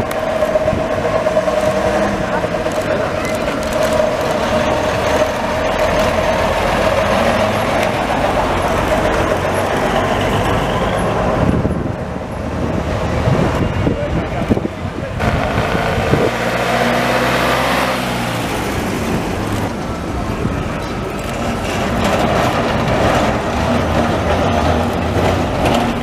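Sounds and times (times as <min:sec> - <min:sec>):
bus driving past: 0:00.0 - 0:26.0
bus engine low hum: 0:00.0 - 0:26.0.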